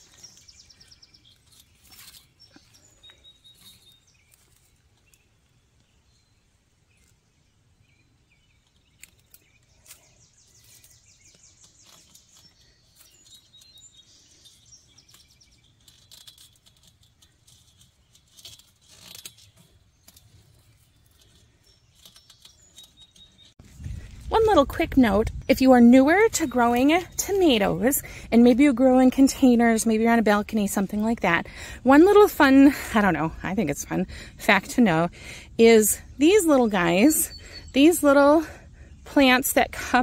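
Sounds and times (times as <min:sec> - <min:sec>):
plants rustling: 0:00.0 - 0:06.0, 0:08.6 - 0:37.2
distant birds chirping: 0:00.0 - 0:40.0.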